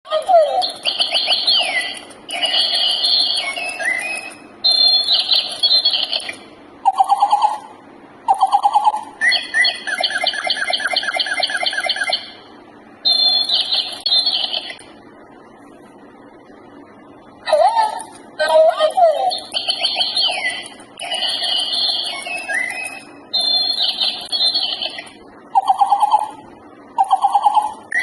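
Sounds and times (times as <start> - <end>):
electronic bird toy chirps: 0.1 - 7.7, 8.3 - 14.8, 17.5 - 26.4, 27.0 - 28.0.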